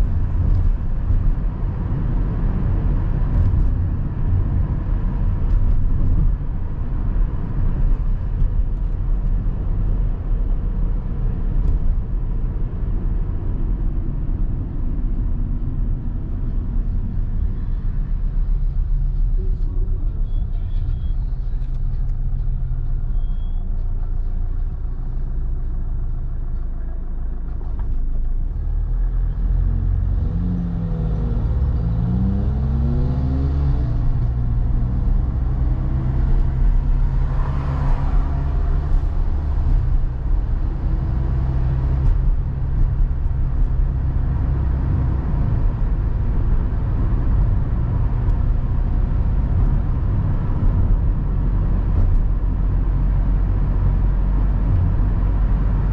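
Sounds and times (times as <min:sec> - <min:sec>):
car engine: 0:00.0 - 0:55.9
road rumble: 0:00.0 - 0:55.9.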